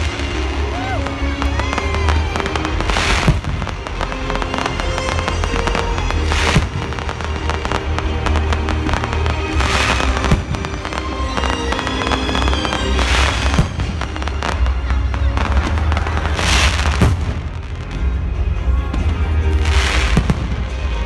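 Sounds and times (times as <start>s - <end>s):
fireworks bursting and crackling: 0.0s - 21.0s
music playing: 0.0s - 21.0s.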